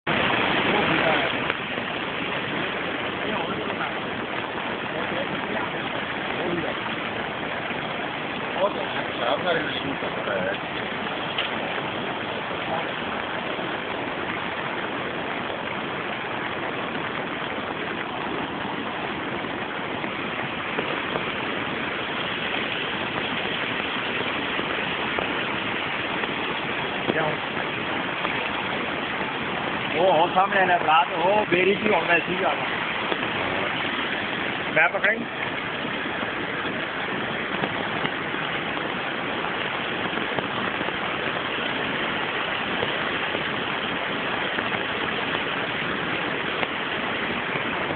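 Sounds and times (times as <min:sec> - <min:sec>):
river in flood roaring: 0:00.0 - 0:47.9.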